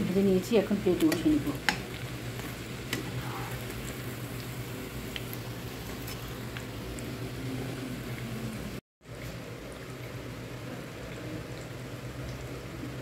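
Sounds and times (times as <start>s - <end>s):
bread rolls sizzling in oil: 0.0s - 13.0s.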